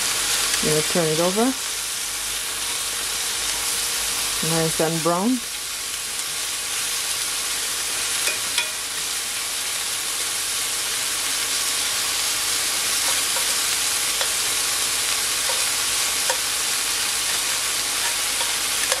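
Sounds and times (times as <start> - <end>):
steak sizzling in a skillet: 0.0 - 19.0.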